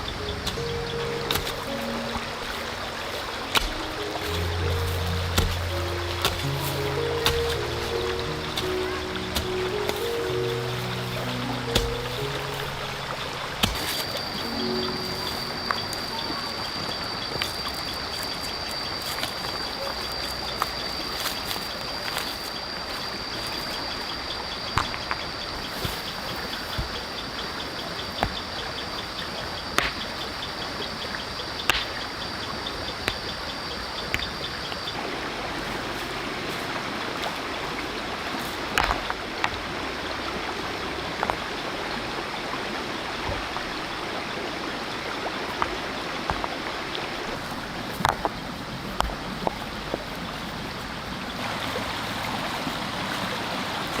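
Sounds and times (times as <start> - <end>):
flowing stream water: 0.0 - 54.0.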